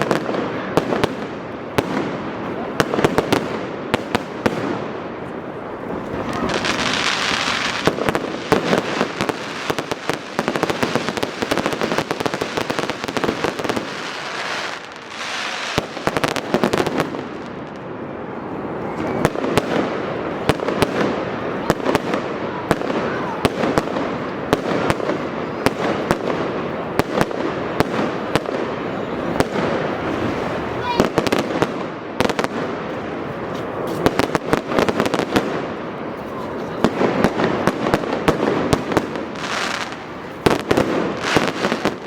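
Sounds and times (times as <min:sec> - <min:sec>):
fireworks bangs: 0:00.0 - 0:42.0
fireworks crackling and hissing: 0:00.0 - 0:42.0.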